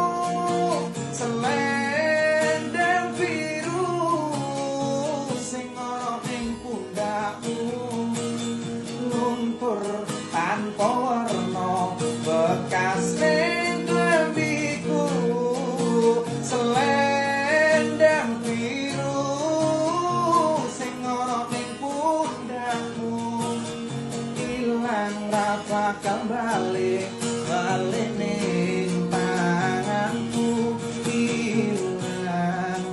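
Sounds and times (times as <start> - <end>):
acoustic guitar: 0.0 - 32.9
person singing slow song: 0.0 - 32.9.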